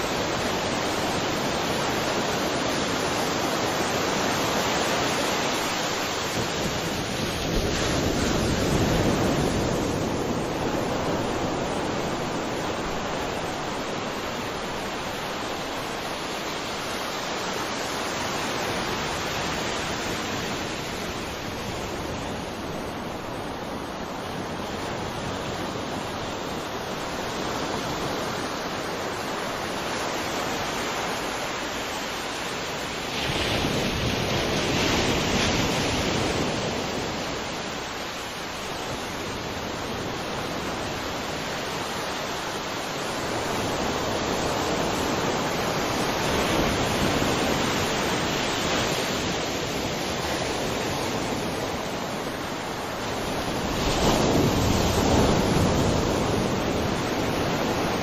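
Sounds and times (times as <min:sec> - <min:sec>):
sea waves washing onto shore: 0:00.0 - 0:58.0.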